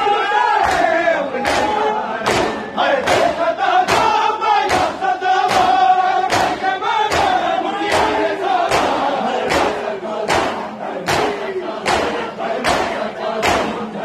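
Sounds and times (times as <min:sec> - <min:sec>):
men chanting in unison: 0:00.0 - 0:14.0
hands striking chests: 0:01.4 - 0:13.8.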